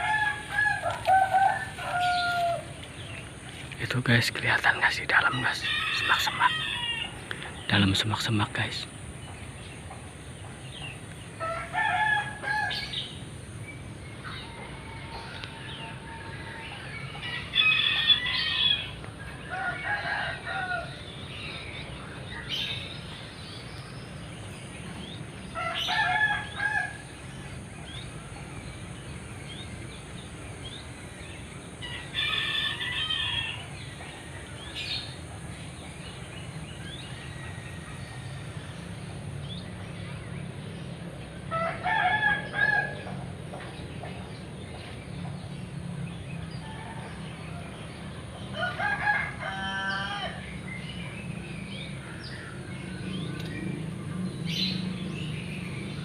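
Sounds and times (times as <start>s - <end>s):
loud bird calls: 0.0s - 56.0s.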